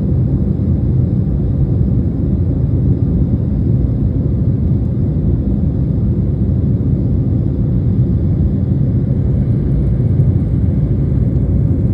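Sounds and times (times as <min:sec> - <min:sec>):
airplane cabin engine rumble: 0:00.0 - 0:11.9.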